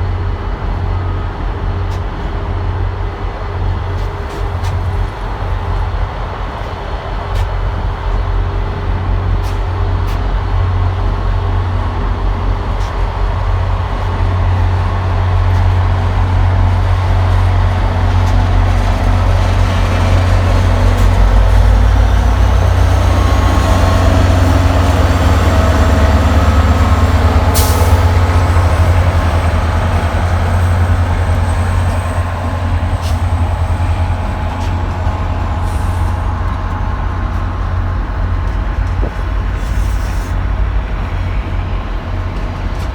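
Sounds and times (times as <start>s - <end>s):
train rumbling: 0.0s - 42.9s.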